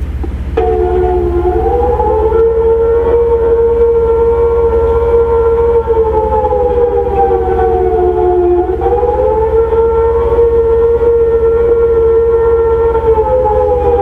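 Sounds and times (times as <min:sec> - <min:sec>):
low steady hum: 0:00.0 - 0:14.0
warning siren: 0:00.4 - 0:14.0.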